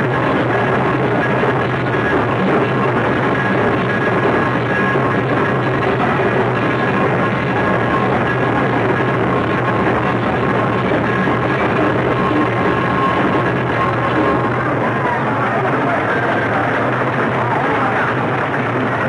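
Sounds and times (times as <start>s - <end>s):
drums: 0.0s - 19.0s.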